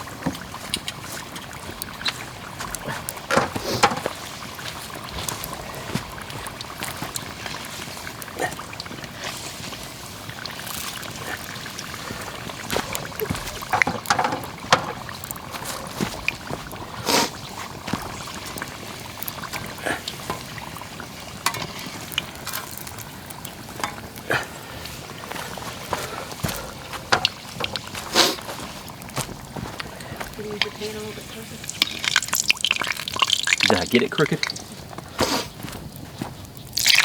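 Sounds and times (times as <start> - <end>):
crackles and pops: 0.0 - 37.0
oil hissing in a pan: 0.0 - 37.0.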